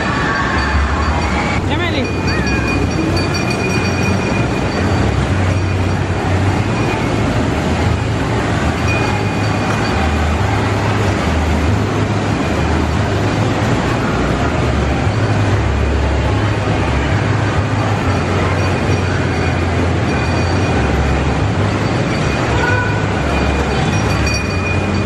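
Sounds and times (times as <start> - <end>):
kiddie train ride rumbling: 0.0 - 25.0.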